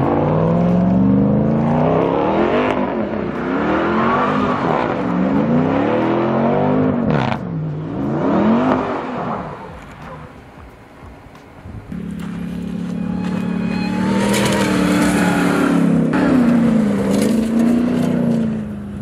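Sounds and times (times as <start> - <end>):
truck engine revving: 0.0 - 9.8, 11.9 - 19.0.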